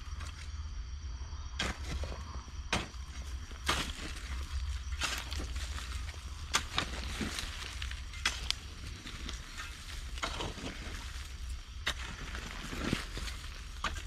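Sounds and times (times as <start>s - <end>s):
shovel scraping into soil: 1.6s - 14.0s.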